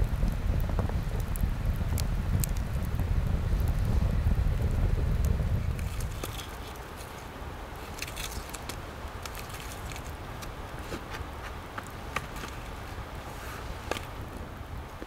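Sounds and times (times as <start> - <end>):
campfire crackling: 0.0 - 15.0
fire pops and ticks: 0.0 - 15.0
low rumble of wind: 0.0 - 15.0.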